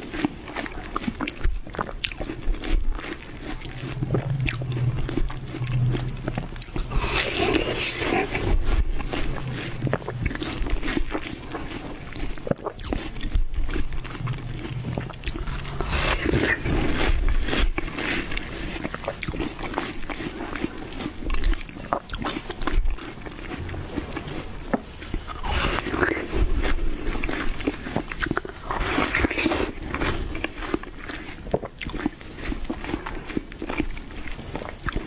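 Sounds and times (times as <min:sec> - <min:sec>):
crunchy chewing of watermelon: 0:00.0 - 0:35.0.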